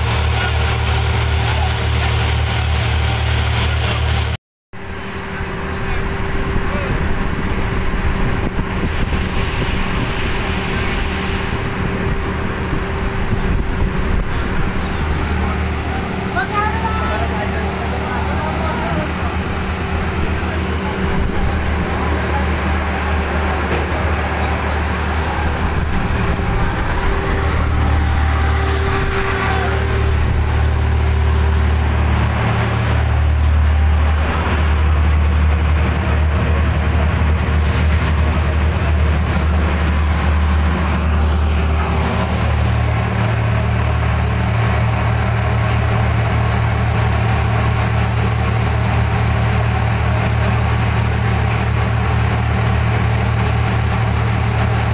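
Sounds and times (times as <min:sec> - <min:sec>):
boat engine low drone: 0:00.0 - 0:54.9.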